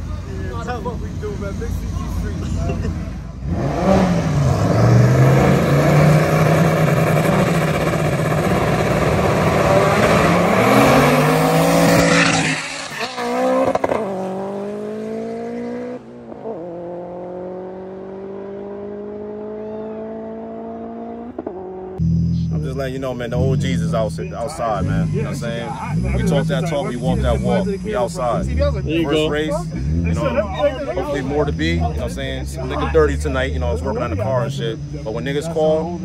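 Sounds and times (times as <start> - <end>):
race car engines at full throttle: 0.0 - 36.0.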